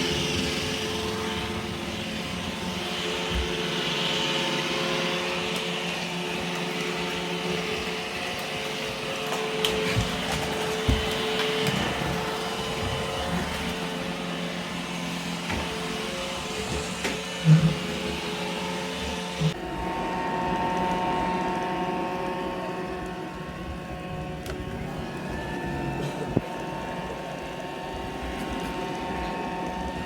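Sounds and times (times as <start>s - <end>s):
robot vacuum running: 0.0s - 30.0s.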